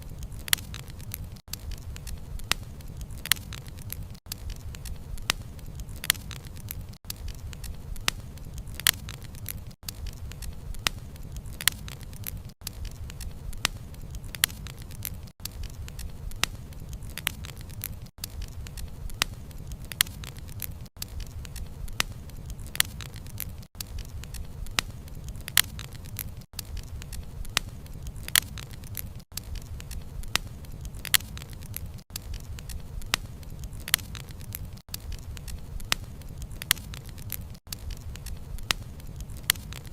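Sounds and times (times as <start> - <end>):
rumble of fire flames: 0.0 - 39.9
wood crackling and popping: 0.0 - 39.9.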